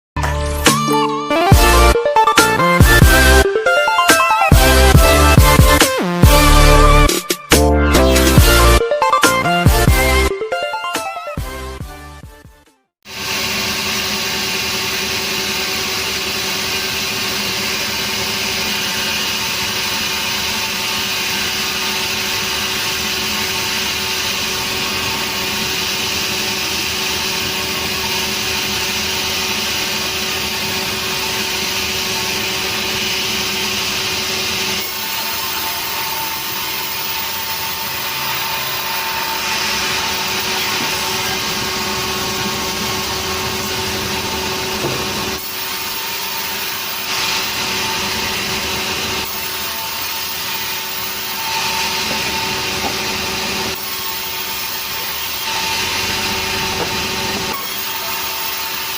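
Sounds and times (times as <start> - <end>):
sawmill saw cutting a log: 1.5 - 8.8, 13.0 - 58.9.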